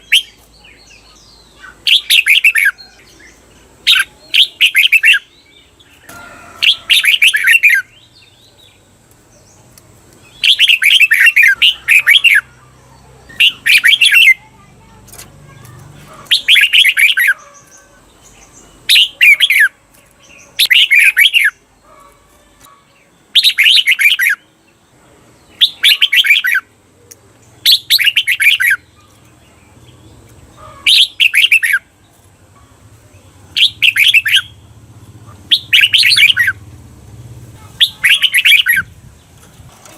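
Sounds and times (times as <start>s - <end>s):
bulbul singing warbled phrases: 0.0s - 39.4s.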